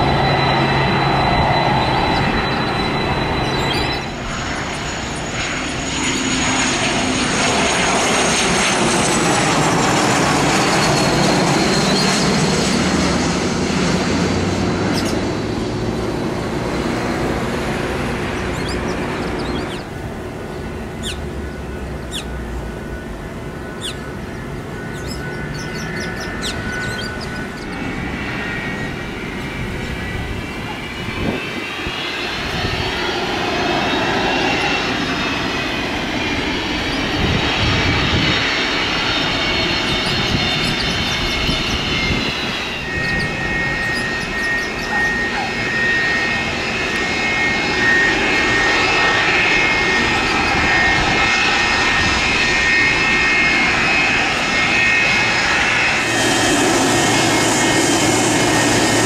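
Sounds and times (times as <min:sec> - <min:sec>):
jet landing engine whine: 0:00.0 - 0:59.0
taxiing jet airliner whine: 0:00.0 - 0:59.0.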